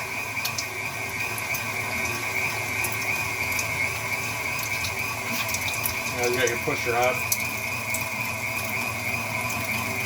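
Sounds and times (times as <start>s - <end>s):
stand mixer grinding meat: 0.0s - 10.0s.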